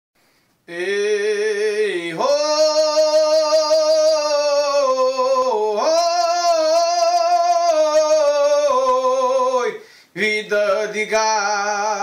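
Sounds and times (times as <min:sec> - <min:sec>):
man singing wordless call: 0:00.6 - 0:12.0.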